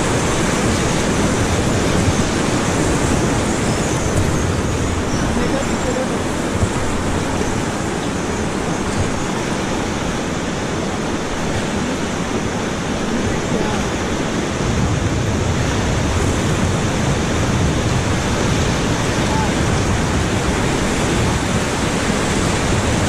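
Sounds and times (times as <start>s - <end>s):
fast river water rushing: 0.0s - 23.0s.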